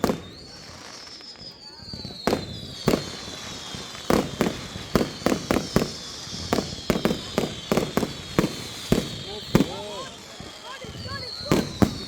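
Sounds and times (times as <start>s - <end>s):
fireworks exploding: 0.0s - 12.0s
high whistle falling in pitch: 0.0s - 12.0s.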